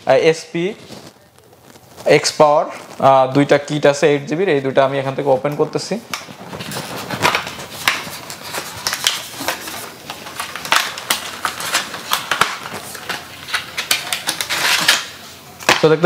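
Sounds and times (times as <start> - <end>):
cardboard and plastic crinkling: 0.6 - 16.0.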